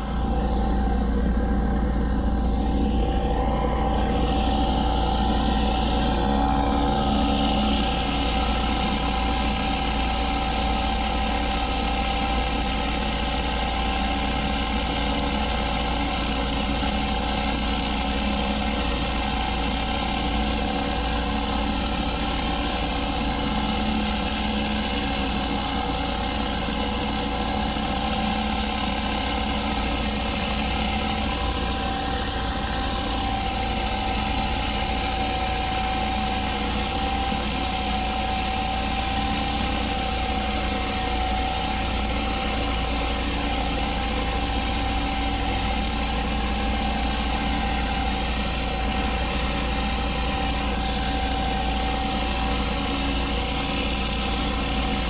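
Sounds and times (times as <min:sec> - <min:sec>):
pressure washer engine running: 0:00.0 - 0:55.0
steady whine: 0:00.0 - 0:55.0.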